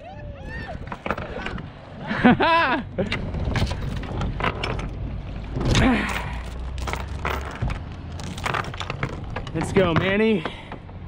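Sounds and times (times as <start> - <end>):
anchor chain clanking and rattling: 0.8 - 1.7, 3.0 - 11.0.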